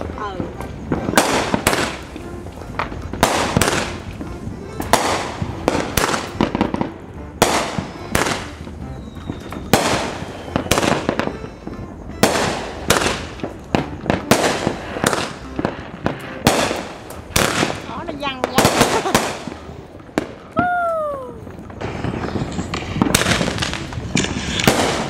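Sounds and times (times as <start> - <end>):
fireworks bangs with echo: 0.0 - 25.0.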